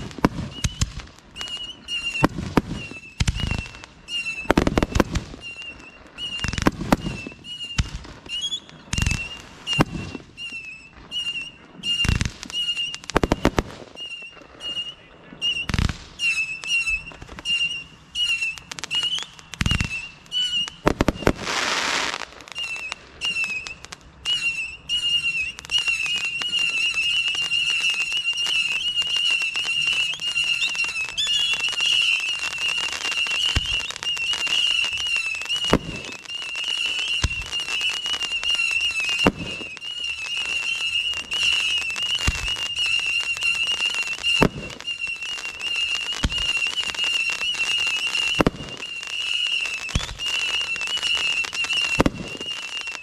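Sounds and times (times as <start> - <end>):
fireworks banging: 0.0 - 53.0
high wavering whistle: 0.0 - 53.0.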